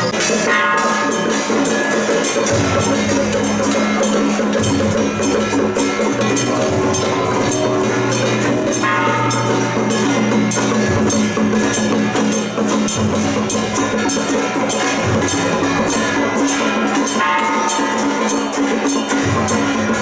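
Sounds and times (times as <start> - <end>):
cymbal strokes: 0.0 - 20.0
drums: 0.0 - 20.0
gong strokes: 0.0 - 20.0.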